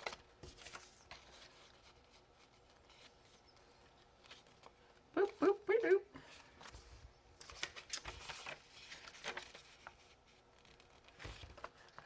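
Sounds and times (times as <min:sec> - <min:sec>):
paper rustling: 0:00.0 - 0:05.1, 0:06.2 - 0:12.0.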